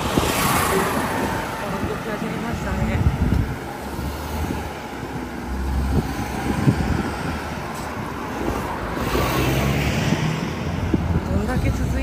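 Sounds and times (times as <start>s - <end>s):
car engines in slow traffic: 0.0s - 12.0s.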